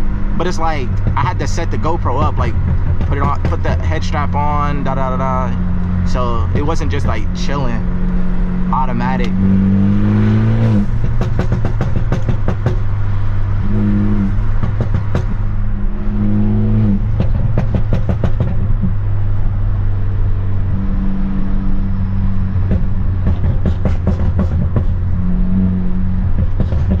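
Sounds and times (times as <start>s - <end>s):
car exhaust droning: 0.0s - 27.0s
exhaust crackles and pops: 0.0s - 27.0s.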